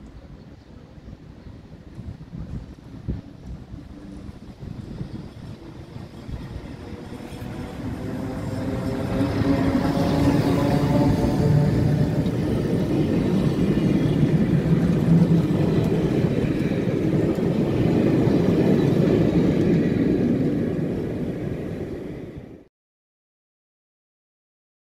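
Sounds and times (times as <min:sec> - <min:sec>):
train wheels rumbling on rails: 0:00.2 - 0:22.6.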